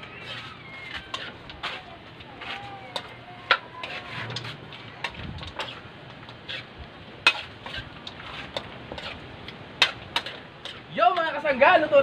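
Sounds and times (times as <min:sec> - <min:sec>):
utensil scraping metal wok: 0:00.0 - 0:11.0.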